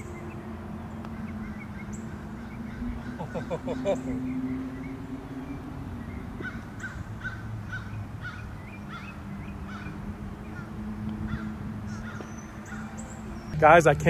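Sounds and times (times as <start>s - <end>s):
bird chirping: 0.0s - 13.9s
low drone: 0.0s - 14.0s.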